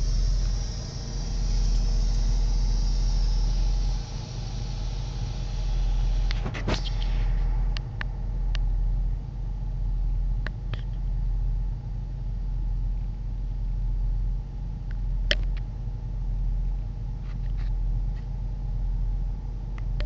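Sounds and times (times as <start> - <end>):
car engine rumble from inside: 0.0 - 20.0.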